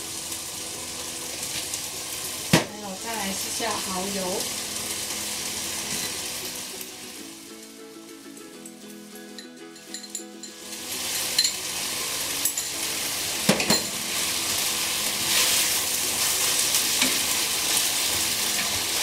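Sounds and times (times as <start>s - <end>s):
rice sizzling in a pan: 0.0s - 19.0s.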